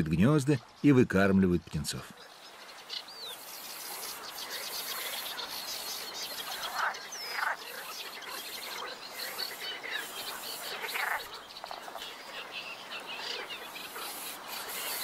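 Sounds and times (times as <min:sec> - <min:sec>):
harsh low bird calls: 0:00.0 - 0:15.0
fast high bird chirring: 0:02.9 - 0:15.0.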